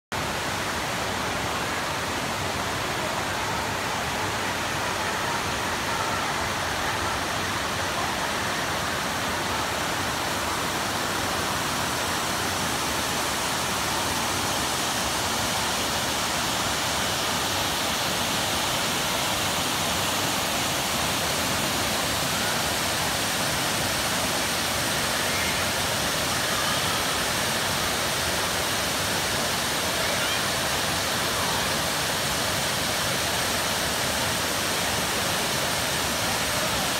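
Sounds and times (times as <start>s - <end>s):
waterfall rushing: 0.2s - 36.9s.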